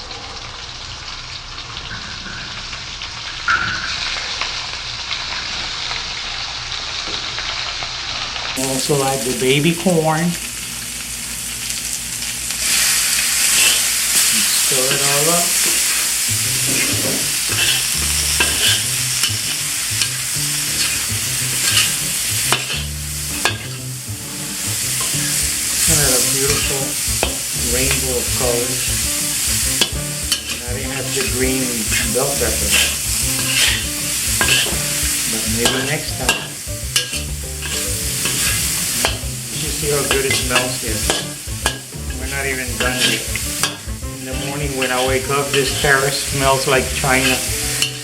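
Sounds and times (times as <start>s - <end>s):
oil sizzling in a wok: 0.0s - 48.0s.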